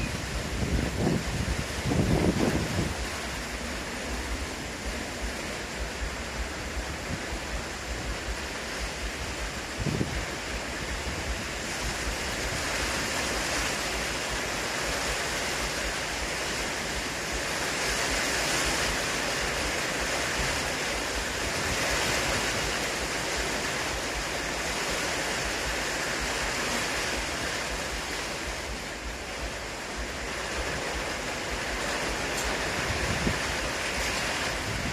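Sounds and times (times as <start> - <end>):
strong gusting wind: 0.0 - 34.9
wind buffeting microphone: 0.0 - 34.9.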